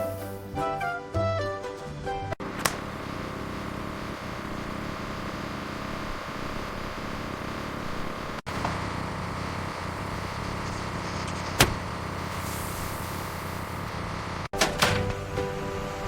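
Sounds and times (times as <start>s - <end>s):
vehicle engine running: 2.4s - 16.0s.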